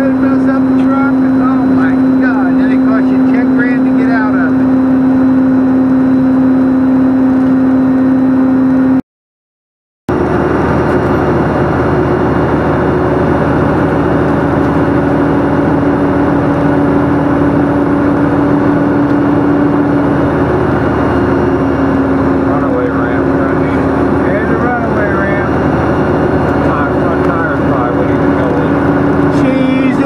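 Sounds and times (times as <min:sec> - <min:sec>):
truck engine and road noise drone: 0:00.0 - 0:09.0, 0:10.1 - 0:30.0.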